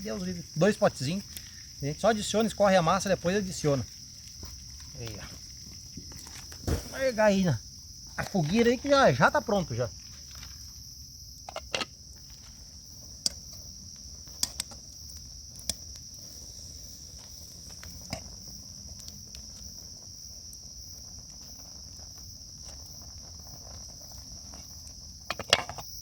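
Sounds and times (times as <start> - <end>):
insect chorus trilling: 0.0 - 26.0.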